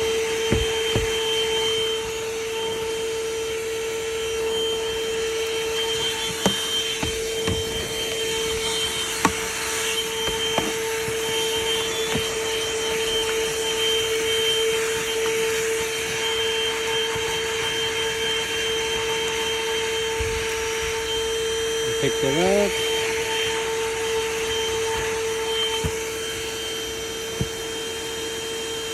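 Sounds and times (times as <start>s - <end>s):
handheld vacuum running: 0.0s - 28.9s.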